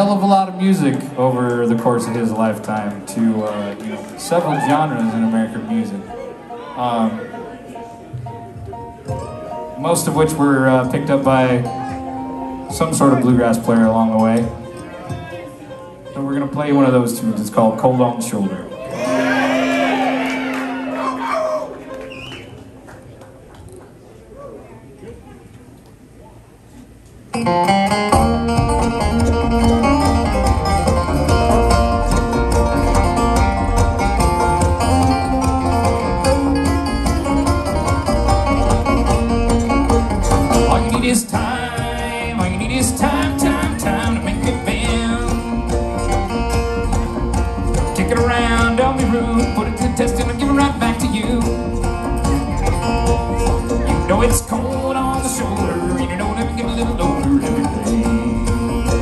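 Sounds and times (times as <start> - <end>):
bluegrass band playing: 0.0 - 23.2, 27.3 - 59.0.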